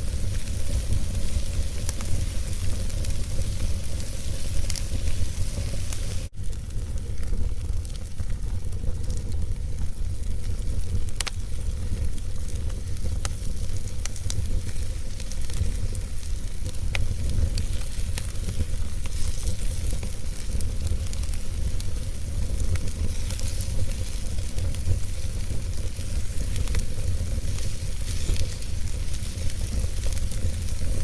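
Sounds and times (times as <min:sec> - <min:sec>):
fire crackling and popping: 0:00.0 - 0:31.0
wood fire rumbling and hissing: 0:00.0 - 0:31.0.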